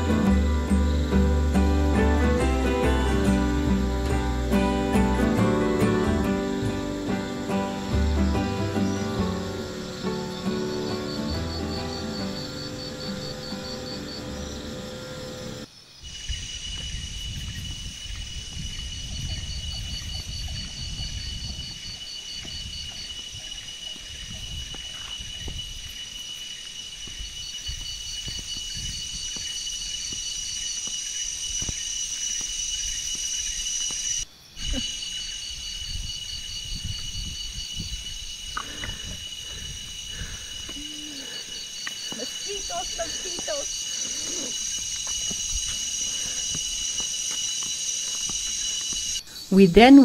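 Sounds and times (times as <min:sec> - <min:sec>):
fast pulsing insect call: 0:00.0 - 0:50.0
shrill insect chorus: 0:00.0 - 0:50.0.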